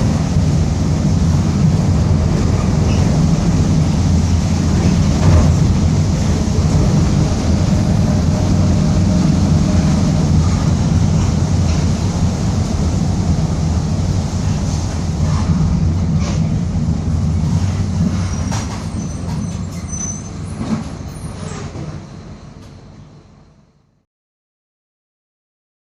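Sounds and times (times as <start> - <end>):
bus body rattles and clicks: 0.0 - 23.3
diesel bus engine drone: 0.0 - 24.0.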